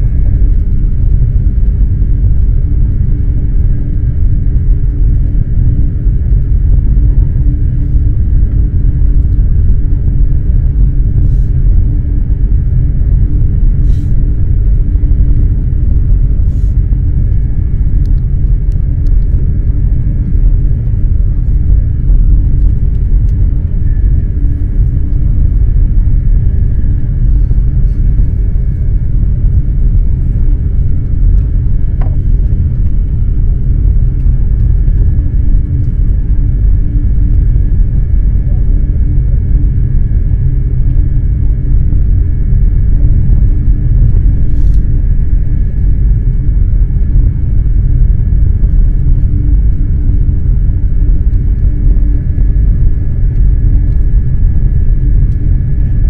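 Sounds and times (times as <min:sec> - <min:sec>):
high whine: 0:00.0 - 0:56.0
train low rumble: 0:00.0 - 0:56.0.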